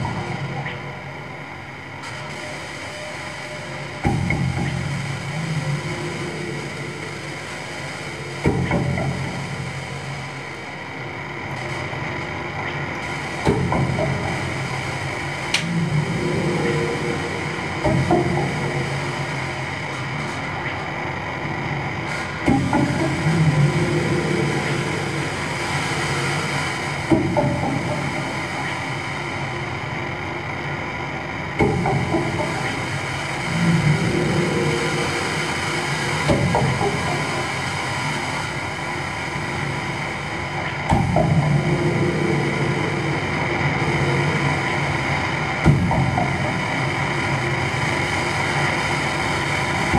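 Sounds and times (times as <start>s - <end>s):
low electronic drone: 0.0s - 49.9s.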